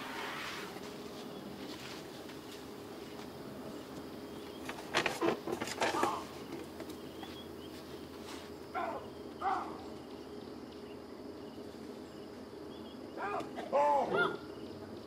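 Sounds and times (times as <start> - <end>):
insect-like drone: 0.0 - 15.0.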